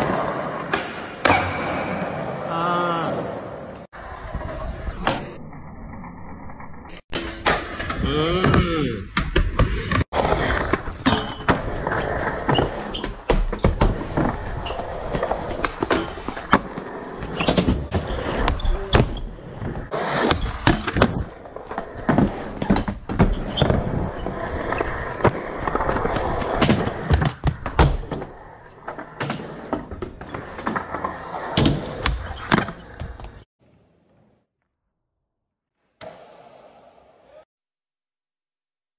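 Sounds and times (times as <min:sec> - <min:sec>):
skateboard wheels rolling on concrete: 0:00.0 - 0:34.5.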